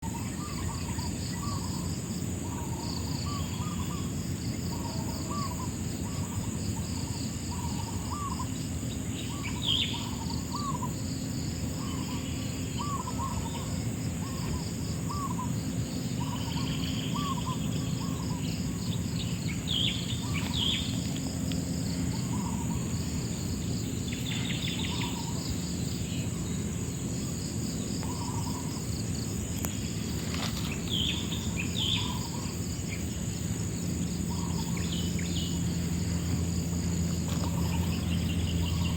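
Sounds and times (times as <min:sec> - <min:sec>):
bird calls: 0:00.0 - 0:38.9
insect drone: 0:00.0 - 0:38.9.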